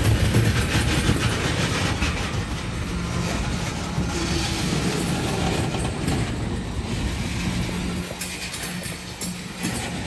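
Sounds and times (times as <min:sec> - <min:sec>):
tank cars rolling on rails: 0:00.0 - 0:10.0.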